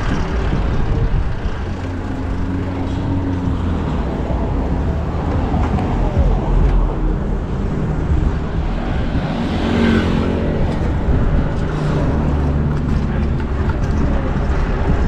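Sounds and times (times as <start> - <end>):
street traffic rumble: 0.0 - 15.0
vehicle passing: 1.0 - 15.0.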